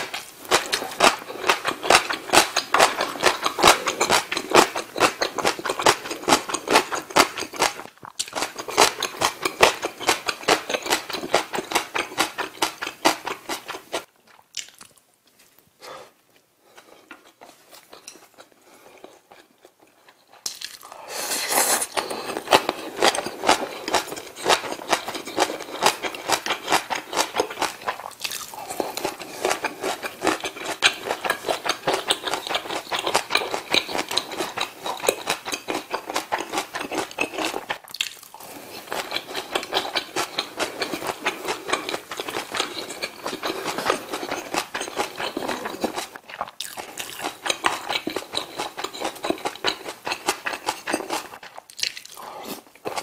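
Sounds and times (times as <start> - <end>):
crunchy chewing: 0.0 - 15.6, 16.3 - 53.0.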